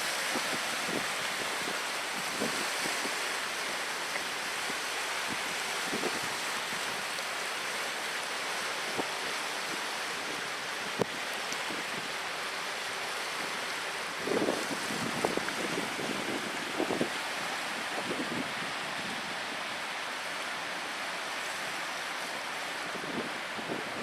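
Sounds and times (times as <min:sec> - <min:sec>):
rushing water: 0:00.0 - 0:24.0
wind: 0:00.0 - 0:24.0.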